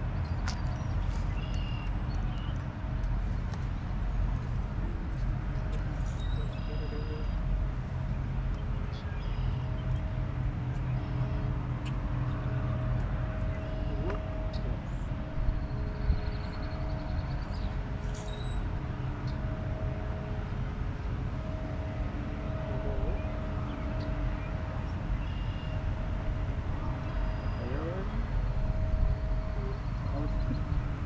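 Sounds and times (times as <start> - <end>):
faint steady hum: 0.0 - 31.0
low rumble: 0.0 - 31.0.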